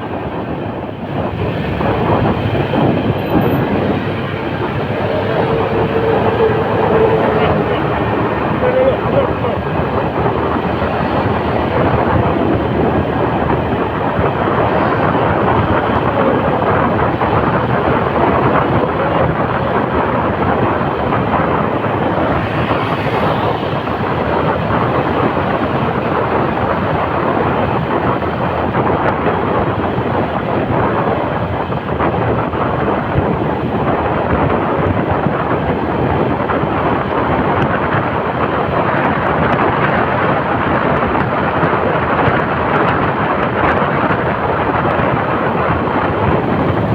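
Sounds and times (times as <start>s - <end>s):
wind rushing over microphone: 0.0s - 46.9s
motorcycle engine: 0.2s - 46.9s.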